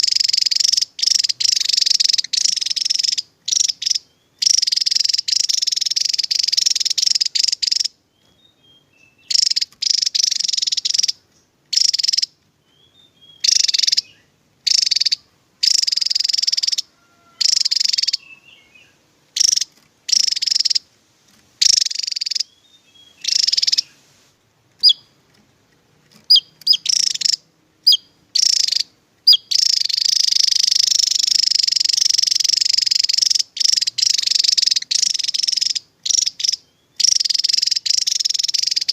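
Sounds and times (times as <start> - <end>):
bird twittering: 0.0 - 20.9, 21.6 - 24.0, 24.8 - 25.2, 26.1 - 38.9.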